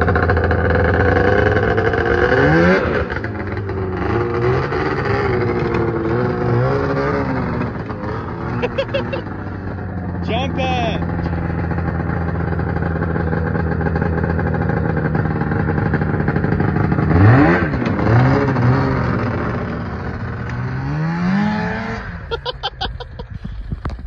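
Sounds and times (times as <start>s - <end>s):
snowmobile engine revving: 0.0s - 23.5s.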